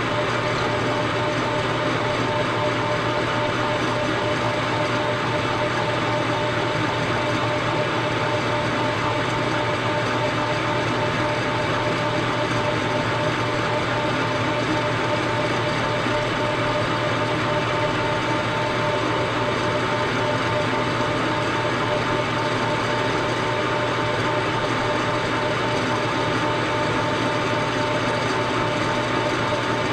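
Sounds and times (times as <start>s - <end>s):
milling machine whining: 0.0s - 29.9s.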